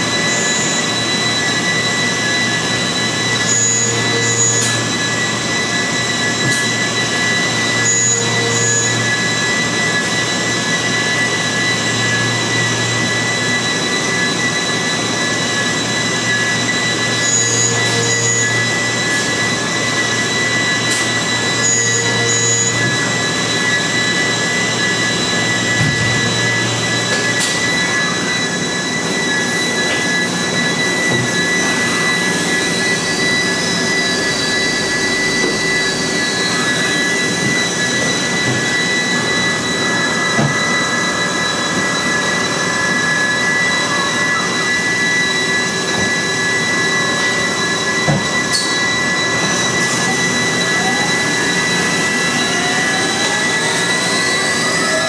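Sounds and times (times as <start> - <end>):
lathe machine whine: 0.0 - 55.0.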